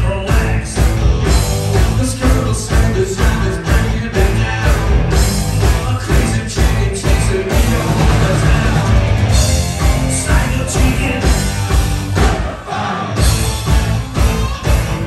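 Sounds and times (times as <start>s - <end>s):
drum kit beat: 0.0s - 15.0s
electric bass: 0.0s - 15.0s
electric guitar: 0.0s - 15.0s
singer singing: 0.0s - 15.0s.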